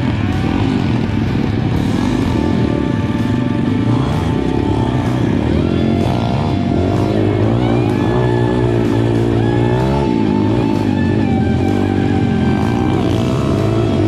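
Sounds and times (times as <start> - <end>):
background music: 0.0 - 14.0
motorbike engine running: 0.0 - 14.0.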